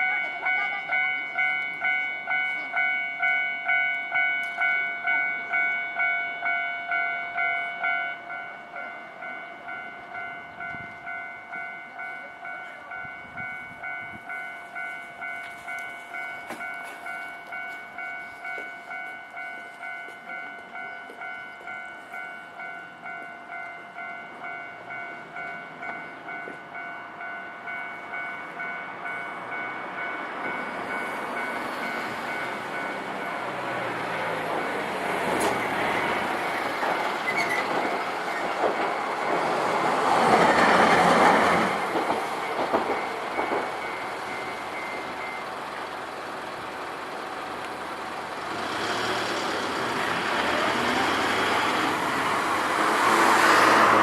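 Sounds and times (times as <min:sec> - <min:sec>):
level crossing alarm ringing: 0:00.0 - 0:48.4.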